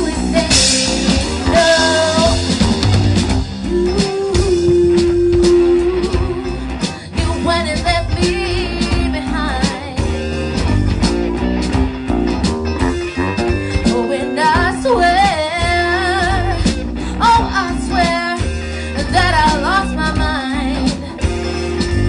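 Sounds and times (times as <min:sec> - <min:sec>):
woman singing lead: 0:00.0 - 0:02.9, 0:03.5 - 0:10.3, 0:13.6 - 0:22.0
live rock band playing: 0:00.0 - 0:22.0.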